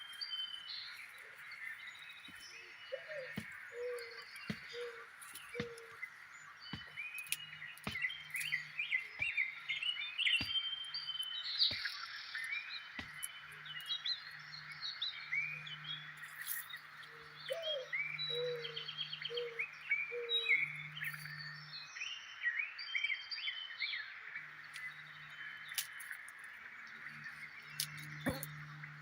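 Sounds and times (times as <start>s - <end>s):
birds chirping and warbling: 0.0s - 29.0s.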